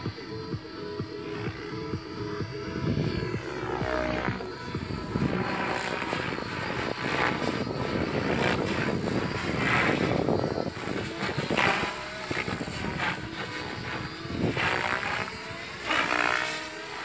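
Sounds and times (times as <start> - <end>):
model helicopter rotor swishing: 0.0 - 17.0.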